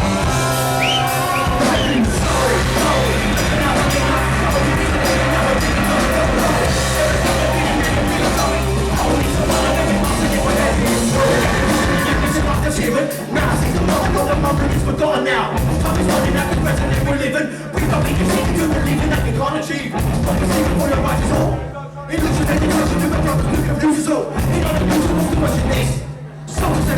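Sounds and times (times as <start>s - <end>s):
live band playing loudly: 0.0s - 19.4s, 20.0s - 21.6s, 22.2s - 23.8s, 24.4s - 26.9s.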